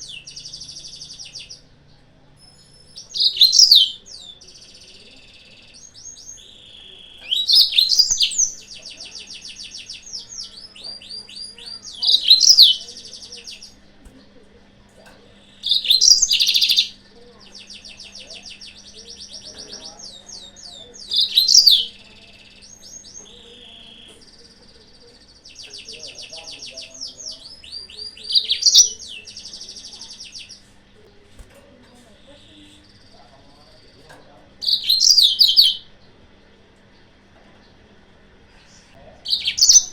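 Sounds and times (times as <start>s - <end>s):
canary rapid trills: 0.0s - 14.0s, 15.3s - 34.0s
canary twittering song: 0.0s - 14.4s, 15.0s - 30.8s, 32.0s - 37.8s, 38.5s - 39.9s.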